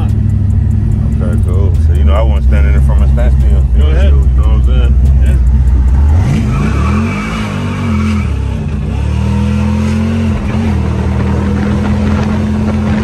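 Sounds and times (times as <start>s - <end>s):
car engine revving under full throttle: 0.0s - 13.0s.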